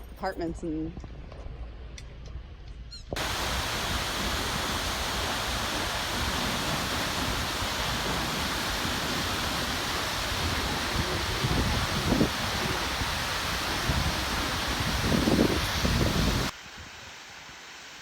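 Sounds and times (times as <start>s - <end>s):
waterfall rushing water: 3.2s - 18.0s.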